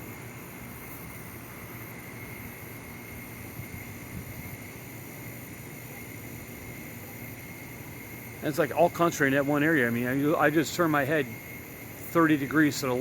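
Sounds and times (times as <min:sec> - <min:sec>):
hiss: 0:00.0 - 0:13.0.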